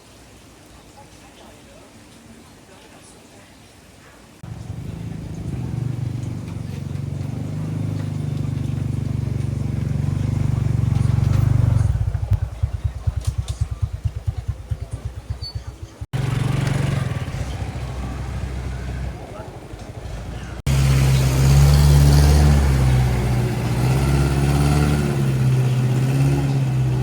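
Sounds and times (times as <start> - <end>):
engine chugging at idle: 4.4 - 27.0
engine humming: 4.4 - 27.0.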